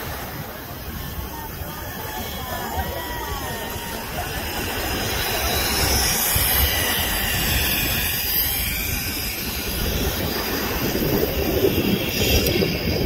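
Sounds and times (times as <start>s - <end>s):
zip line trolley whirring: 0.0s - 13.0s.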